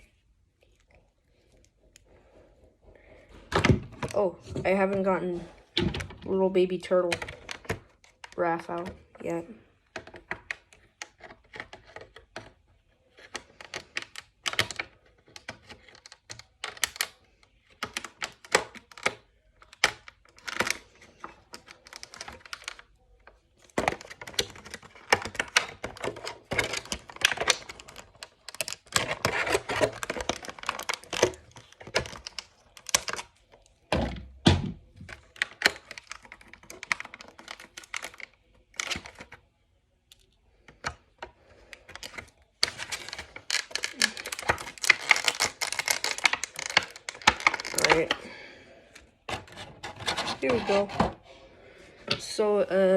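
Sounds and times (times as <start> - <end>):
hard plastic packaging crinkling: 3.2 - 51.3.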